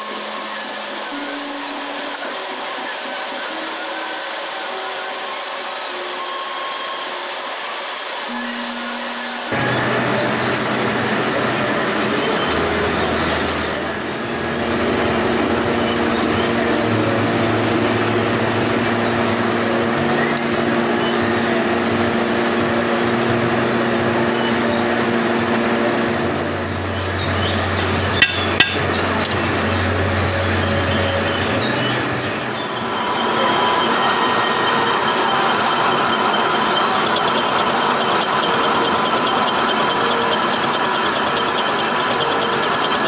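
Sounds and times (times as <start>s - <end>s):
metal lathe running: 0.0s - 43.0s.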